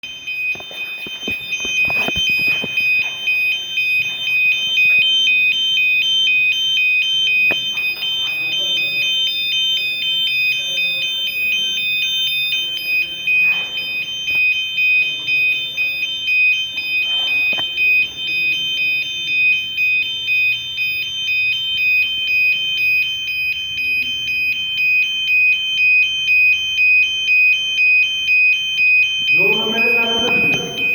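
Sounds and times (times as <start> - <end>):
fire alarm pulsing tone: 0.0 - 30.9.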